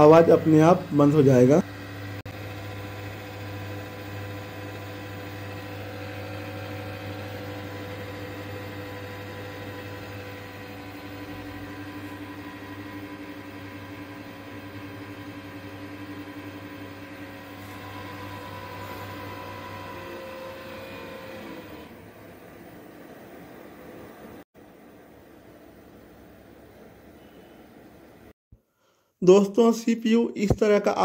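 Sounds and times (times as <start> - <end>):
computer fans whirring: 0.0 - 28.3.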